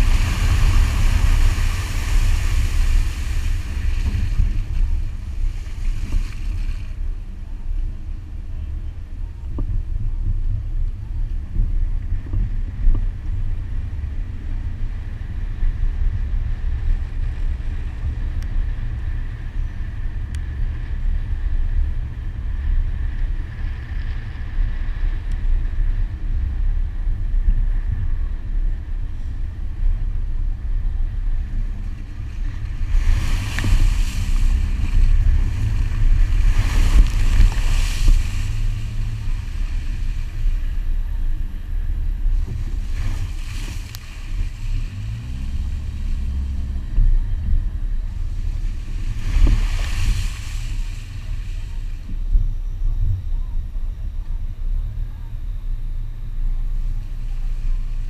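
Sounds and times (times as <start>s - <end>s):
car rumbling on dirt: 0.0s - 58.0s
wind buffeting microphone: 0.0s - 58.0s.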